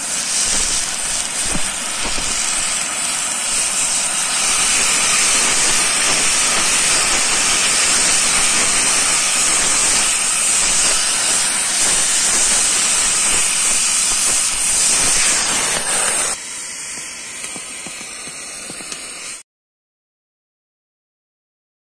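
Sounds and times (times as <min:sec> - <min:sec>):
cutting torch hissing: 0:00.0 - 0:19.4.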